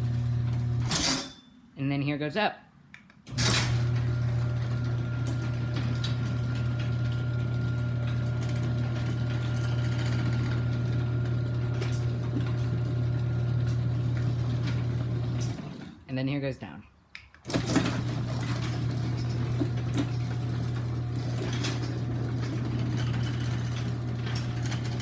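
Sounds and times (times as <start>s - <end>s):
garage door motor humming: 0.0s - 1.1s, 3.3s - 16.1s, 17.4s - 25.0s.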